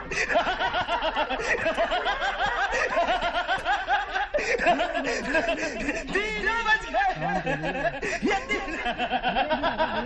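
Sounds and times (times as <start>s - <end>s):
group laughing: 0.0s - 10.0s.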